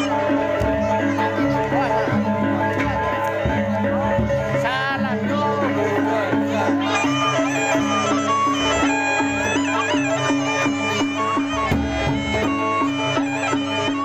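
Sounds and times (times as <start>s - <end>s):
drum and gong ensemble playing: 0.0s - 14.0s.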